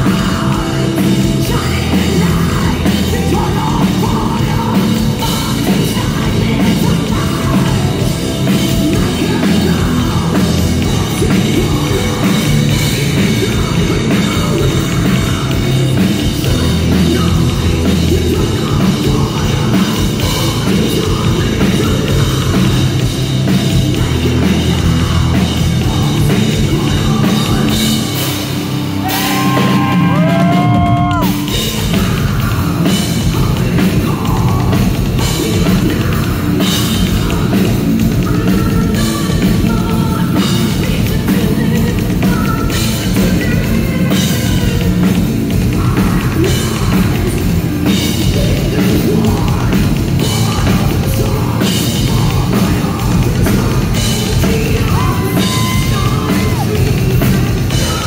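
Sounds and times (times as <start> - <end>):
bass guitar: 0.0 - 58.0
drum kit: 0.0 - 58.0
electric guitar: 0.0 - 58.0.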